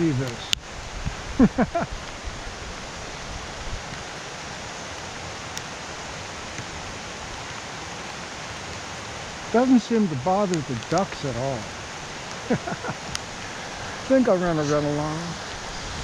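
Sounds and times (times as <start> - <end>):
rain hissing: 0.0 - 16.0
river rushing: 0.0 - 16.0.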